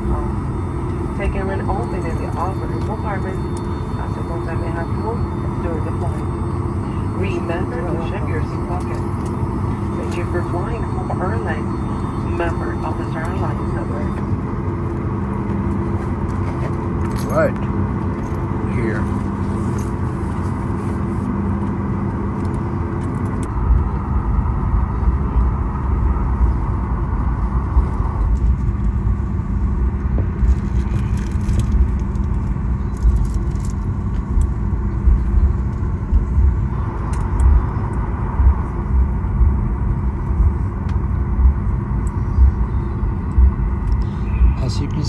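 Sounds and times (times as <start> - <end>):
aircraft engine hum: 0.0 - 45.0
low bumpy rumble: 0.0 - 45.0.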